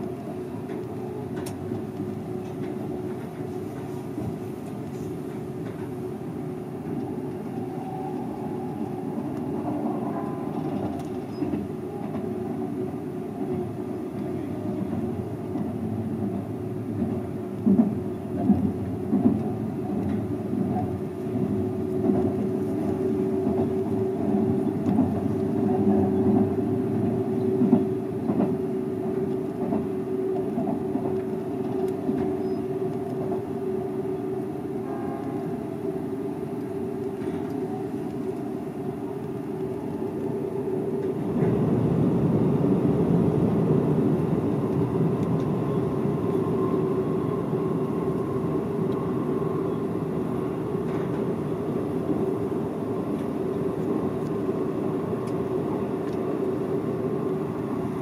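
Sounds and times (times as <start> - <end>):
train rolling at speed: 0.0 - 58.0.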